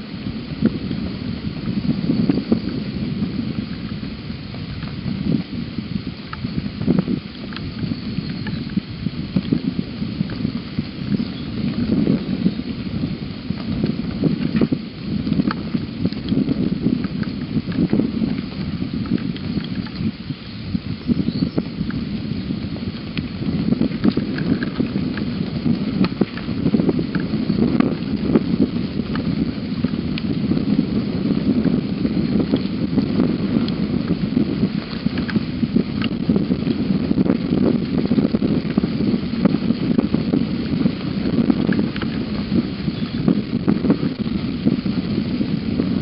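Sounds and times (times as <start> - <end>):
steady rain pattering: 0.0 - 46.0.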